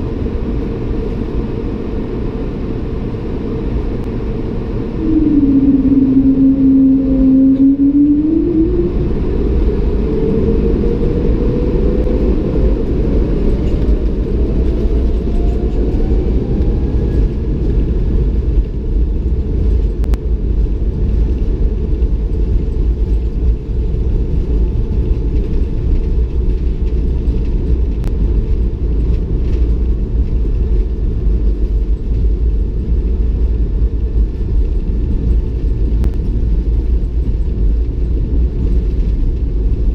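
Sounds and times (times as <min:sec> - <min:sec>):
jet engine rumble: 0:00.0 - 0:39.9
rising jet engine whine: 0:00.0 - 0:39.9.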